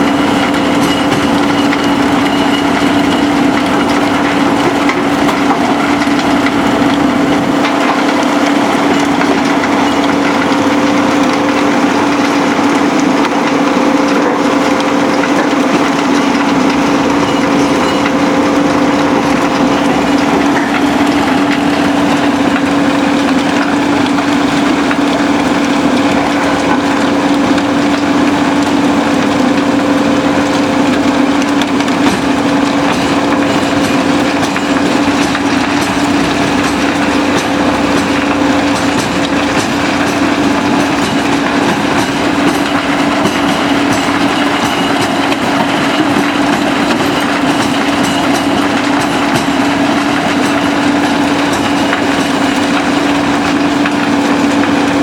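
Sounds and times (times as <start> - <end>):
rattle of rubble being crushed: 0.0 - 55.0
steady machine hum: 0.0 - 55.0.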